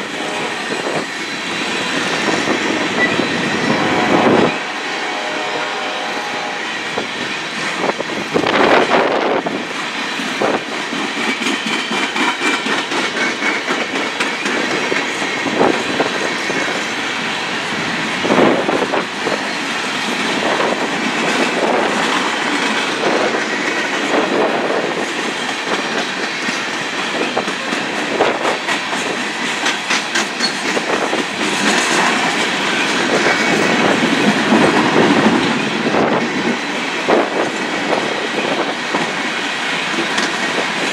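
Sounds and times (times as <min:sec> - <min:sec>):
steel wheels rolling on rail: 0:00.0 - 0:40.9.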